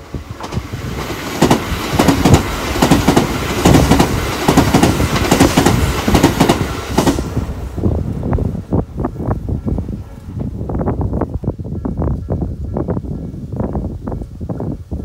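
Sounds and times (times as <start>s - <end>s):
train wheels on rails: 0.0s - 14.8s
rhythmic clickety-clack of rail joints: 0.0s - 15.0s.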